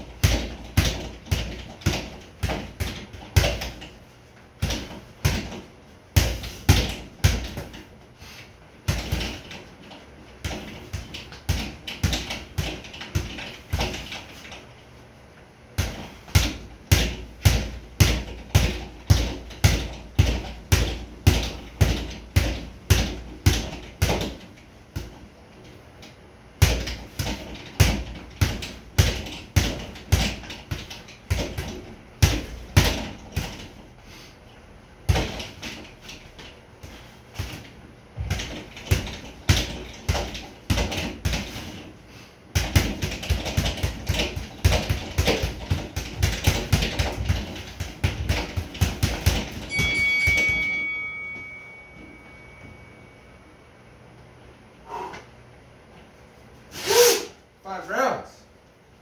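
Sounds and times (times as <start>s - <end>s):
boxing gloves punching a bag: 0.0s - 4.0s, 4.6s - 8.0s, 8.8s - 14.6s, 15.7s - 25.3s, 26.6s - 33.9s, 35.0s - 52.7s.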